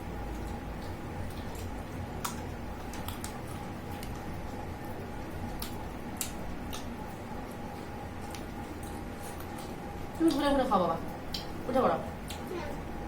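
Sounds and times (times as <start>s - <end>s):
faint steady hum: 0.0s - 13.0s
people eating with their hands: 0.0s - 13.0s.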